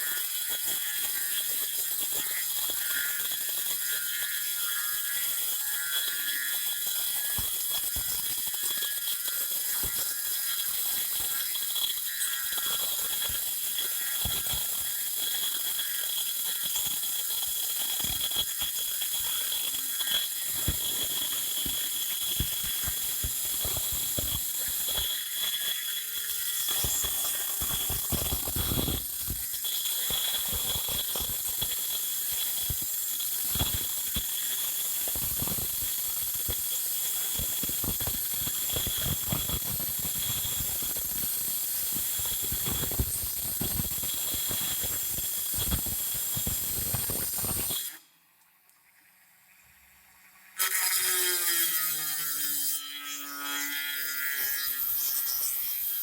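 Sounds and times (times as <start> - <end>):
rotary tool grinding clay: 0.0 - 48.0.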